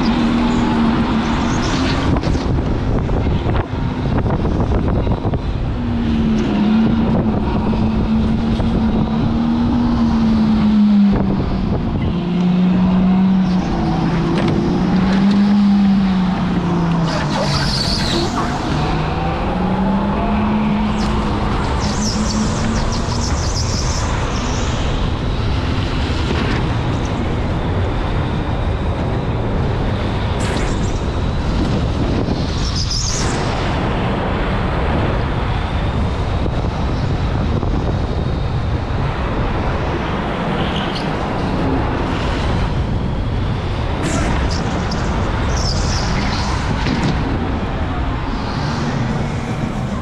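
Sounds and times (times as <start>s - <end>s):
tyres rumbling and rushing air: 0.0s - 50.0s.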